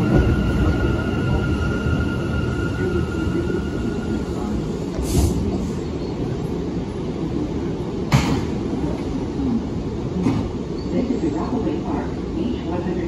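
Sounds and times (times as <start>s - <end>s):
subway wheels rumbling on track: 0.0s - 13.0s.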